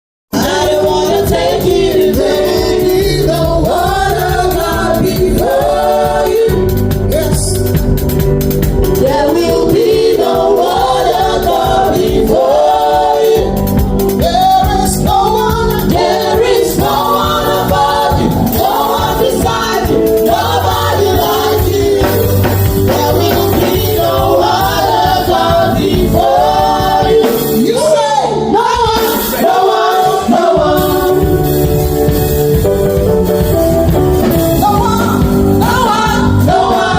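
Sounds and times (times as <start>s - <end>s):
gospel group singing with band: 0.3s - 36.9s.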